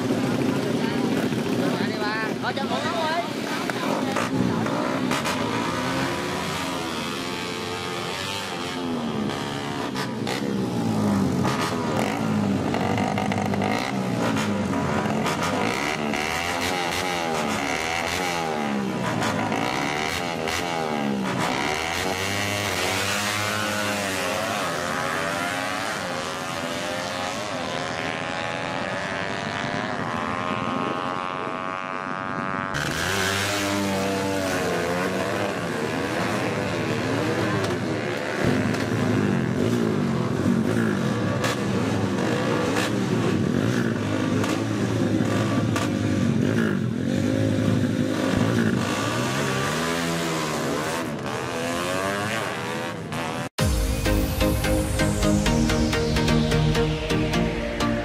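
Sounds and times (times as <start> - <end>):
motorcycle accelerating away: 0.0 - 58.0
motorcycles revving: 0.0 - 58.0.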